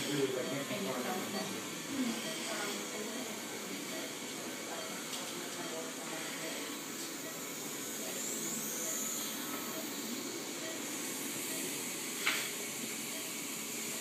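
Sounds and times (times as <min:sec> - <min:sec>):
ventilation and equipment hiss: 0:00.0 - 0:14.0.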